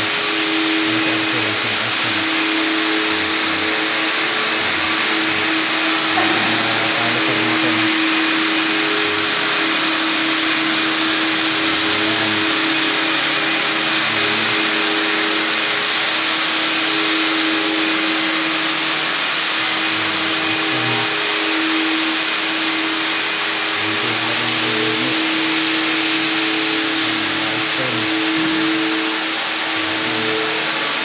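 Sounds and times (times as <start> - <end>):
floor polishing machine running: 0.0 - 31.0.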